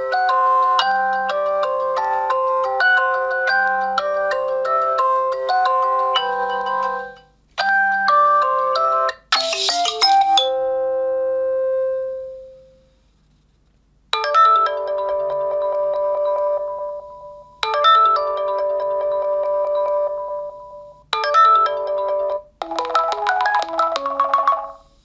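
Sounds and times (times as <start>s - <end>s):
ringtone melodies: 0.0s - 12.4s, 14.2s - 24.9s.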